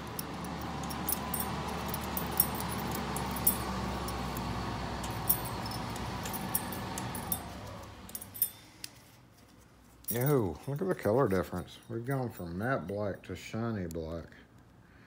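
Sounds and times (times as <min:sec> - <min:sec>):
metal keys clinking: 0:00.0 - 0:09.0, 0:10.0 - 0:13.3.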